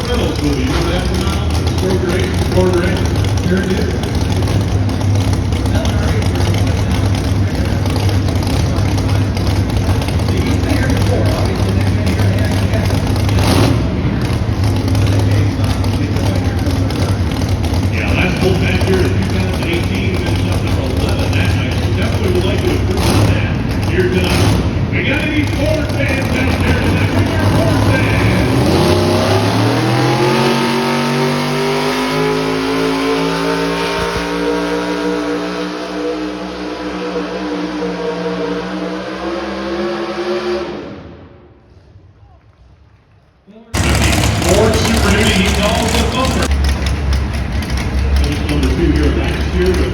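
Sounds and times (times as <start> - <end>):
truck engine running loud: 0.0 - 42.2, 43.7 - 49.9.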